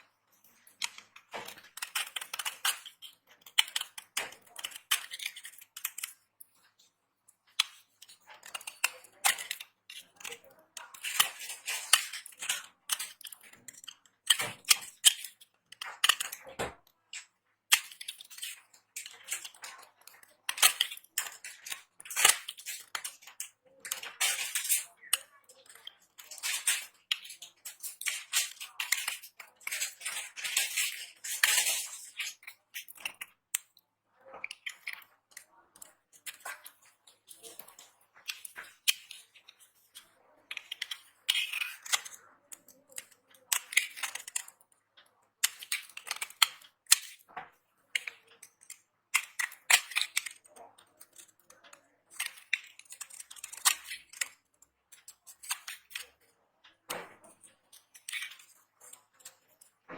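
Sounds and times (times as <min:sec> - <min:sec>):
knife cutting dry soap: 0:00.0 - 0:59.9.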